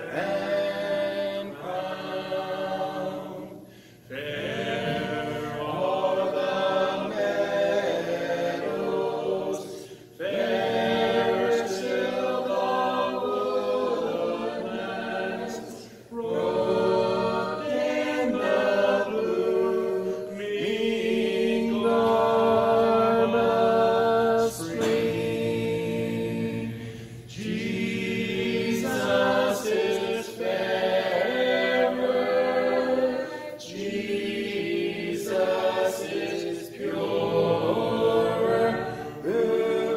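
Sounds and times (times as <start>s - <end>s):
voices singing a hymn a cappella: 0.0s - 39.9s.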